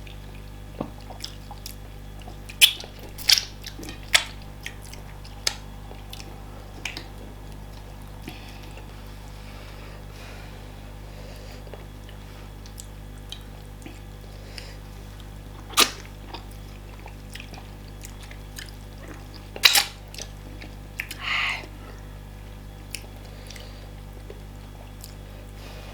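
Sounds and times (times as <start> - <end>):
chewing and mouth clicks: 0.0 - 9.0, 11.6 - 22.1, 22.8 - 25.6
steady low hum: 0.0 - 25.9.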